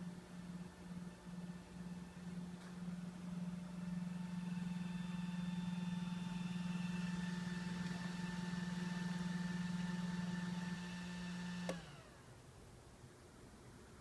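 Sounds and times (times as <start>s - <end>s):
headlight bulbs humming drone: 0.0s - 12.4s.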